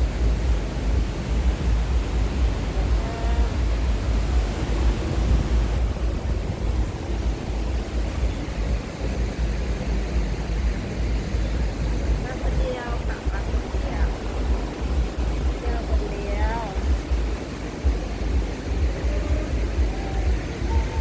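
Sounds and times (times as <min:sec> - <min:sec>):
sea surf rushing: 0:00.0 - 0:21.0
wind buffeting microphone: 0:00.0 - 0:21.0.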